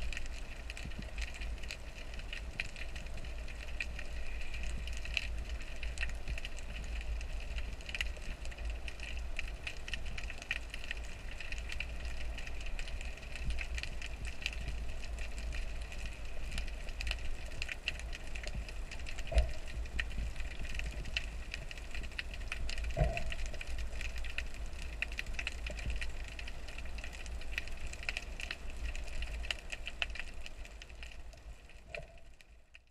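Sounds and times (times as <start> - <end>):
low underwater rumble: 0.0 - 32.7
underwater crackling clicks: 0.0 - 32.9.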